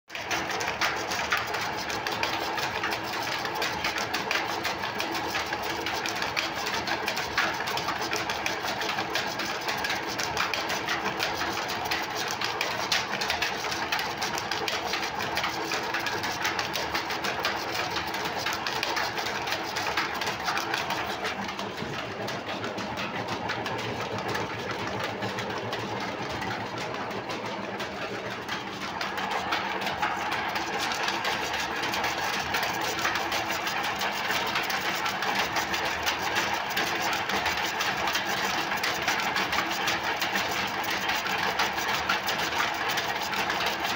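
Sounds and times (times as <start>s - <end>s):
oil expeller machine clattering: 0.2s - 43.9s.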